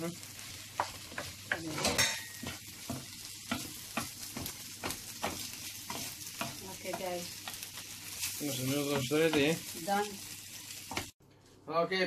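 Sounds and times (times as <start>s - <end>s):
light sizzle: 0.0s - 12.0s.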